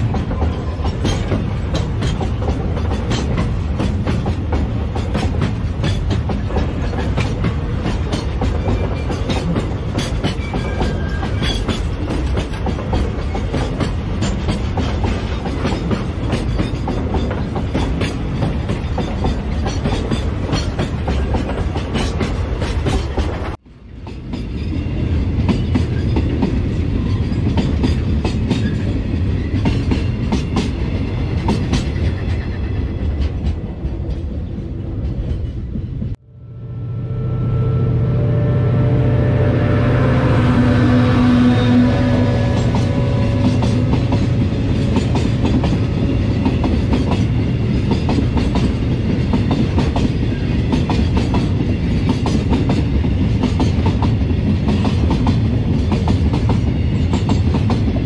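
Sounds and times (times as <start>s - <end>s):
freight train wheels rumbling: 0.0s - 36.2s, 38.2s - 58.0s.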